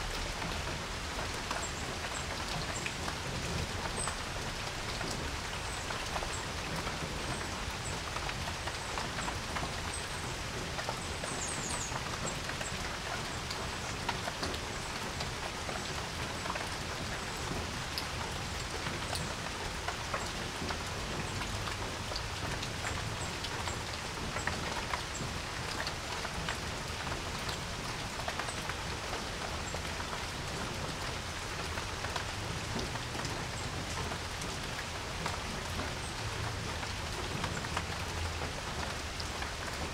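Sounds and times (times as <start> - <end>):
rain falling on a porch: 0.0 - 39.9
raindrops ticking on surfaces: 0.0 - 39.9.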